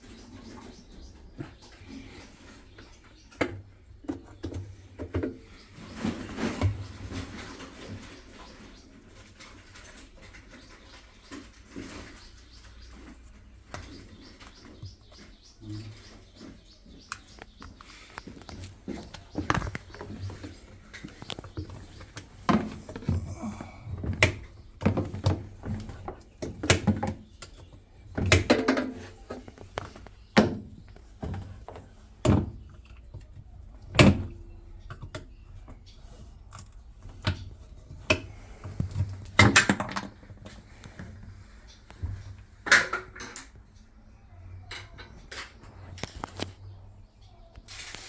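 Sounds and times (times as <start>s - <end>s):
objects knocking and clunking: 0.0s - 44.0s.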